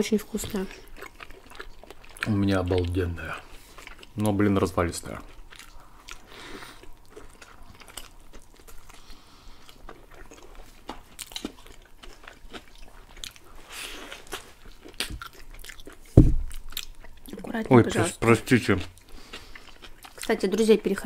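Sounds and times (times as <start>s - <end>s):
people chewing food: 0.0s - 21.0s
soft crunch of food: 0.0s - 21.0s.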